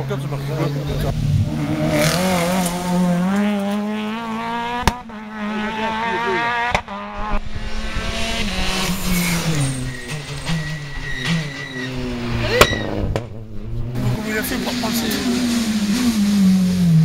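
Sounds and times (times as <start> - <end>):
rally car engines at full throttle: 0.0 - 17.0.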